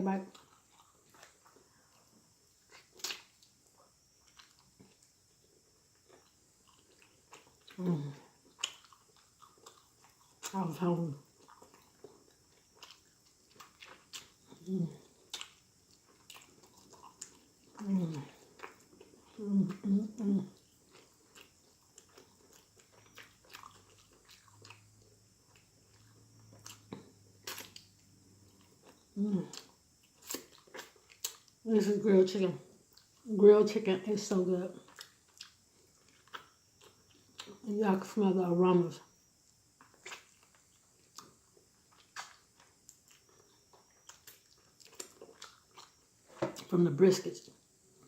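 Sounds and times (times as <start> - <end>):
person chewing: 0.2 - 10.6, 11.3 - 31.6, 34.8 - 37.6, 39.8 - 46.7.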